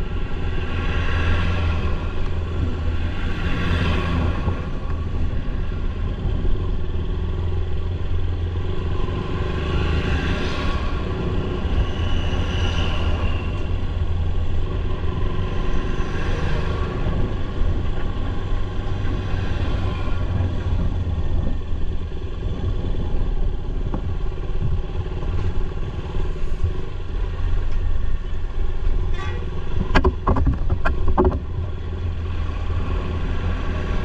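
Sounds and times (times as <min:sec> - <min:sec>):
road and wind noise: 0:00.0 - 0:34.0.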